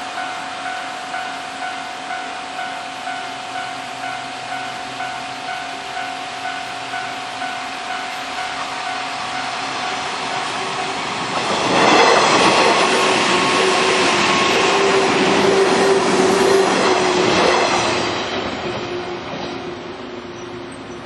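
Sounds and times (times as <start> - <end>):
train motor whine: 0.0 - 20.8
electric train passing: 0.0 - 21.0.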